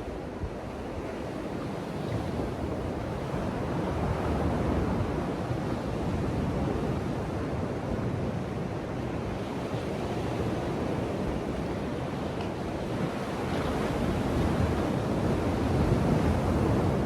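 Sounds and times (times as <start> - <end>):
ocean waves on a beach: 0.0 - 17.0
wind rumble on microphone: 0.0 - 17.0.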